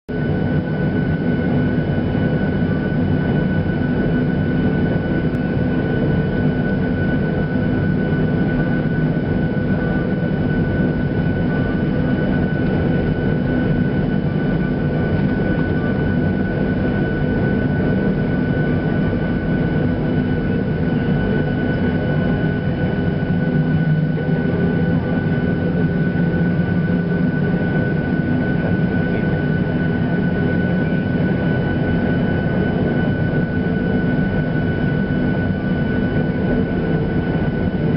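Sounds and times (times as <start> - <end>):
airliner cabin hum: 0.2 - 37.9.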